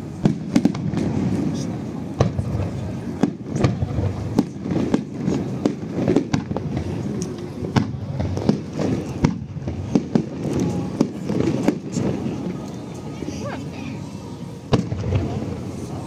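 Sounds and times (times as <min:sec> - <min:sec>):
fireworks bangs: 0:00.0 - 0:12.6, 0:14.6 - 0:16.0.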